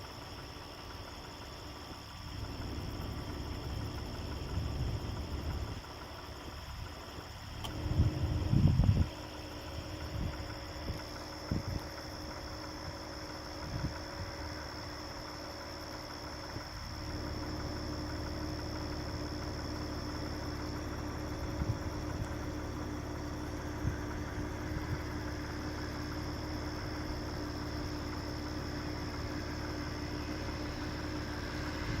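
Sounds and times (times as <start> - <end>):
car engine rumbling: 0.0 - 32.0
high-pitched insect drone: 0.0 - 32.0.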